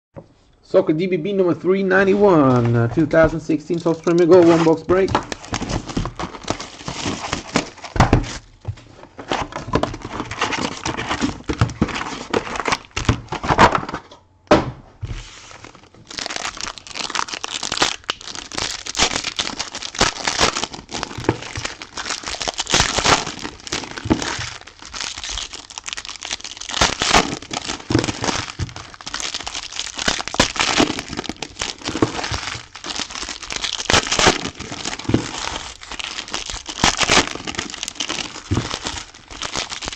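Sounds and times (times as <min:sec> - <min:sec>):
plastic wrapping crinkling and tearing: 0:02.1 - 0:14.0, 0:15.1 - 0:39.9.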